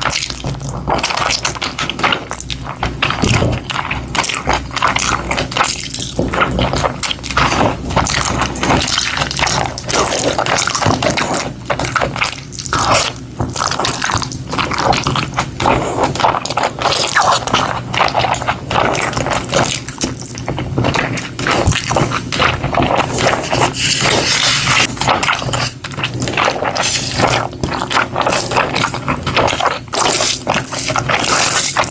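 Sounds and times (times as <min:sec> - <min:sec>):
person chewing wetly: 0:00.0 - 0:31.9.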